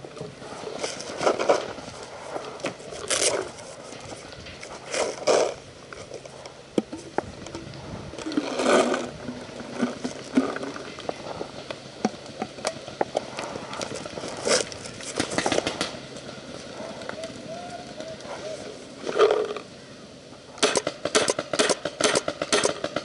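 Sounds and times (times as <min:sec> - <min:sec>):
rustling through bush: 0:00.0 - 0:20.6.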